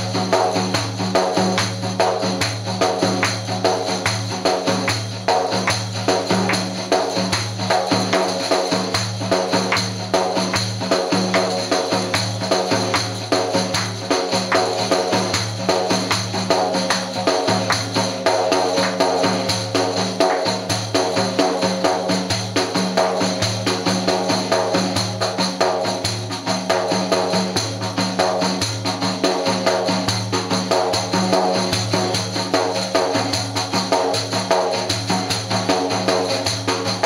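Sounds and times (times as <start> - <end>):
frame drum played by hand: 0.0 - 37.0.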